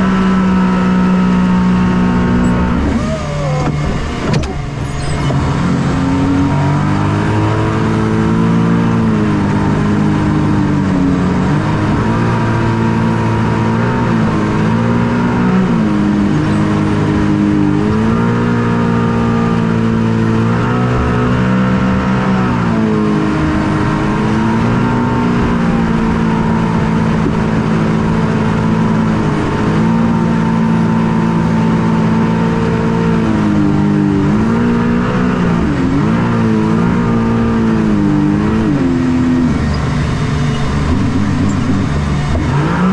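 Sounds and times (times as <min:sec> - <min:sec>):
boat engine revving: 0:00.0 - 0:42.9.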